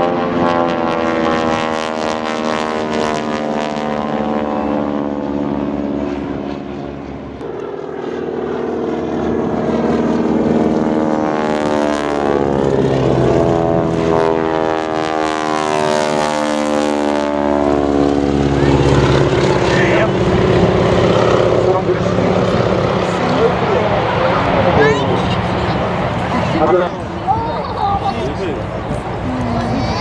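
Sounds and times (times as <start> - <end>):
biplane propeller engines droning: 0.0 - 30.0.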